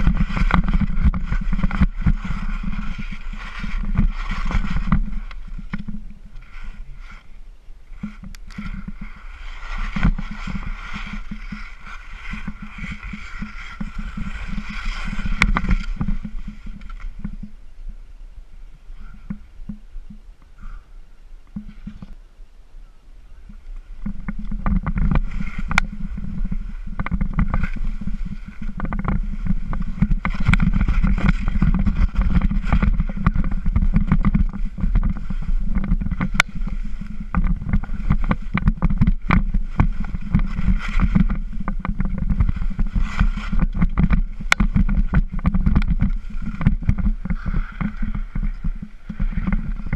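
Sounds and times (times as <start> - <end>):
skis scraping over snow: 0.0 - 18.1, 21.5 - 22.2, 23.4 - 49.9
wind rumble on microphone: 0.0 - 49.9.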